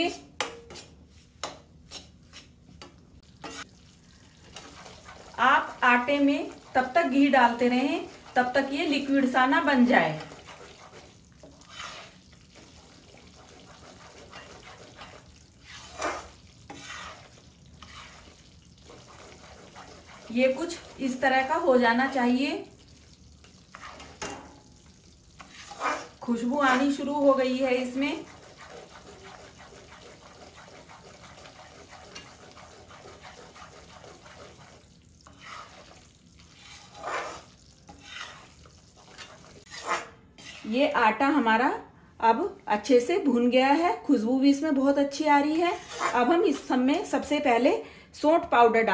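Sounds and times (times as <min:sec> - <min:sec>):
stirring strokes: 0:00.0 - 0:41.3, 0:45.4 - 0:47.4
spatula swishing through mixture: 0:00.0 - 0:41.4, 0:45.2 - 0:47.3
flour sizzling in a pan: 0:00.0 - 0:41.7, 0:42.8 - 0:47.6.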